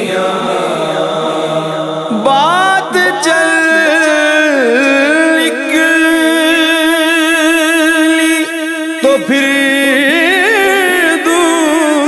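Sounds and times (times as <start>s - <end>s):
steady held drone: 0.0s - 11.3s
man singing: 2.1s - 12.0s.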